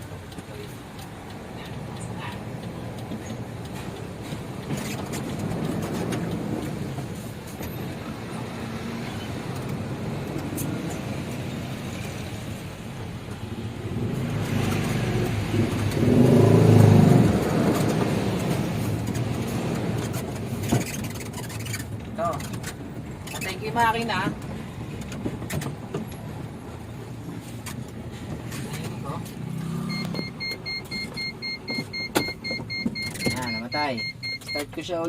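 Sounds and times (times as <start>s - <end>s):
diesel truck engine revving: 0.0s - 33.6s.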